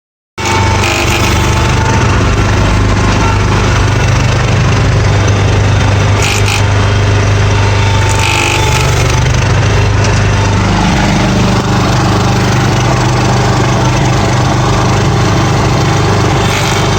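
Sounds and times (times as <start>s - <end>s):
driveline grinding noise: 0.4s - 16.9s
garden tractor running: 0.4s - 16.9s.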